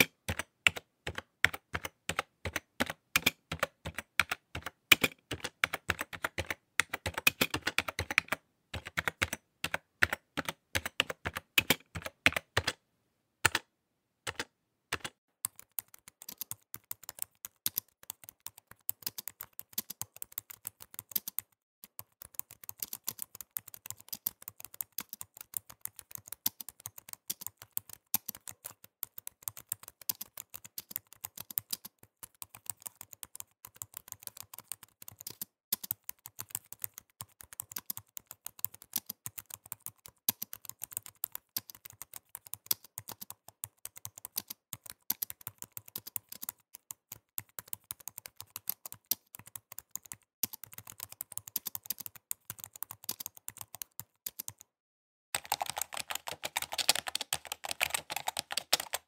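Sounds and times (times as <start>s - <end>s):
computer keyboard typing: 0.0s - 12.8s, 13.4s - 13.7s, 14.3s - 54.7s, 55.4s - 59.0s.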